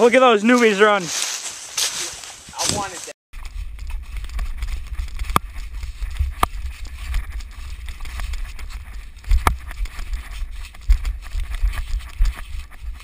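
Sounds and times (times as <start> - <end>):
running footsteps: 0.4 - 13.0
camera microphone rumble and thumps: 2.5 - 13.0.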